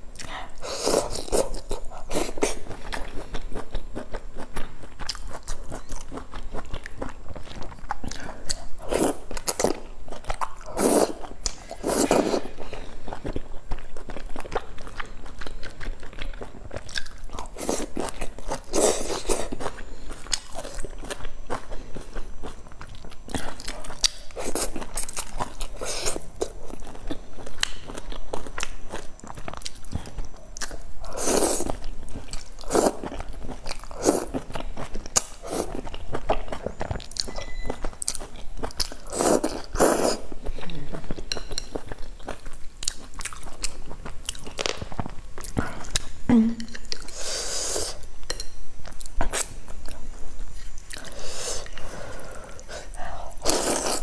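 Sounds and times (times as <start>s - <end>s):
chewing food: 0.1s - 47.2s.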